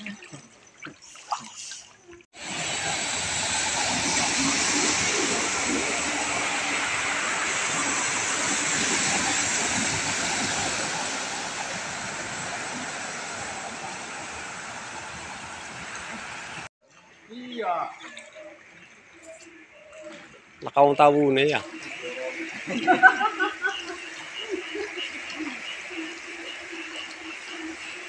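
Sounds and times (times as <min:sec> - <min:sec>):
floodwater rushing: 0:00.0 - 0:16.7, 0:17.4 - 0:28.0
vehicles wading through water: 0:00.0 - 0:28.0.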